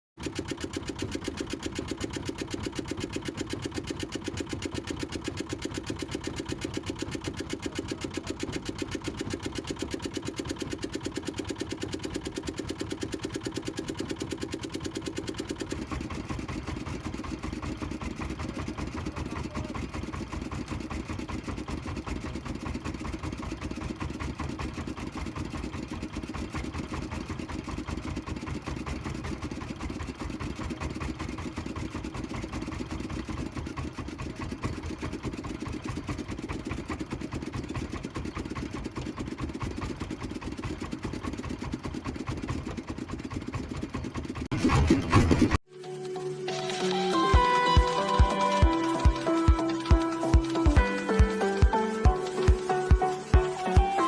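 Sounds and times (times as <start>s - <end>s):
boat engine running: 0.2s - 54.0s.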